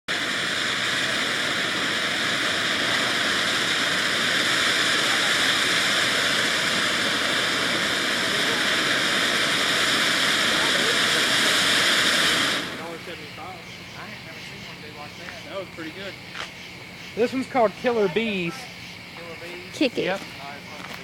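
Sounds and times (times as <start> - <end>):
firework fountain hissing: 0.0 - 21.0.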